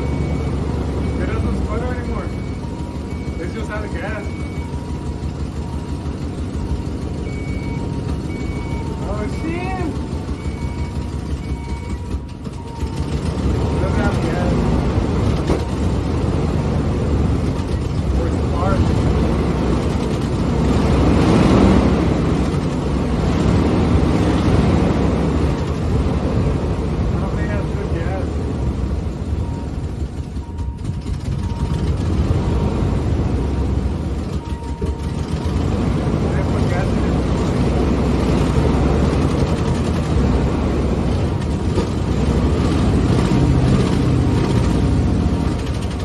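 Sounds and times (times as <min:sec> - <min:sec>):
pickup truck engine running: 0:00.0 - 0:46.0.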